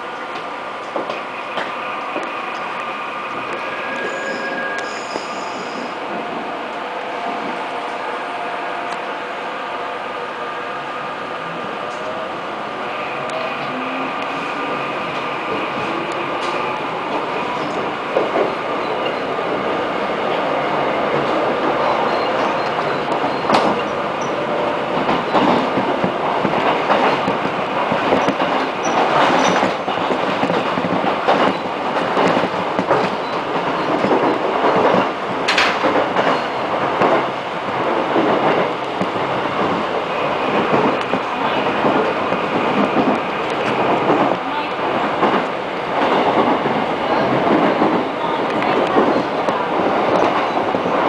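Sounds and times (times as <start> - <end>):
clickety-clack over track: 0.0 - 51.0
train wheels rumbling on rails: 0.0 - 51.0.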